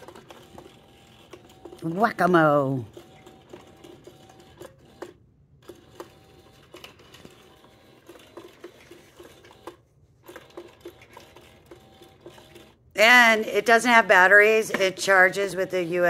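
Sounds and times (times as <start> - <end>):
toy motor whir: 0.0 - 16.0.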